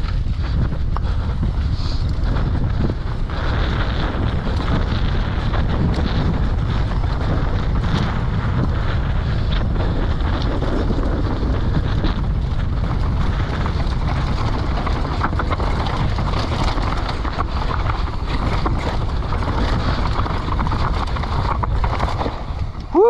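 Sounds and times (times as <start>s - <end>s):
bike rattling over bumps: 0.0s - 23.0s
bike tyres rumbling on dirt: 0.0s - 23.0s
wind on microphone: 0.0s - 23.0s.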